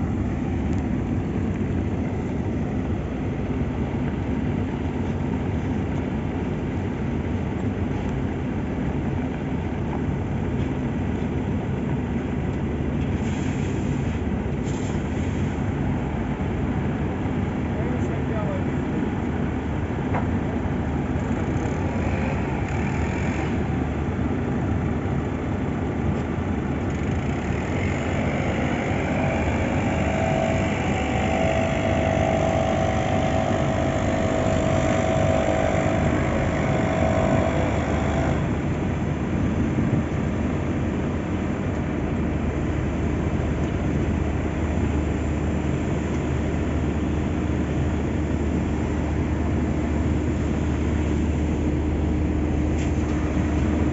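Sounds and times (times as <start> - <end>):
diesel paving machine engine drone: 0.0 - 53.9
high steady whine: 0.0 - 53.9.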